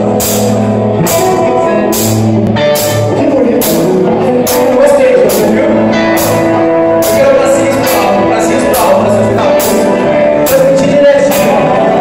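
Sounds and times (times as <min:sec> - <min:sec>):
live rock band playing: 0:00.0 - 0:12.0
loud drum accents: 0:00.0 - 0:12.0.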